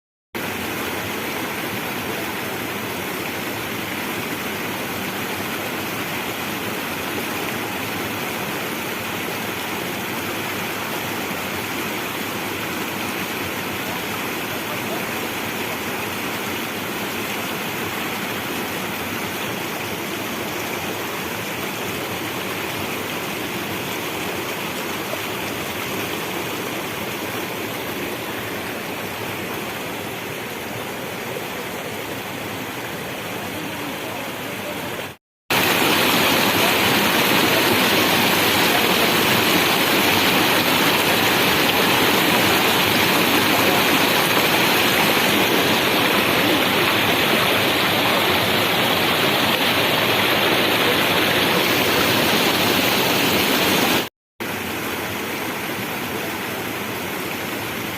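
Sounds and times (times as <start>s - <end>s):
fast-flowing river water rushing: 0.4s - 57.9s.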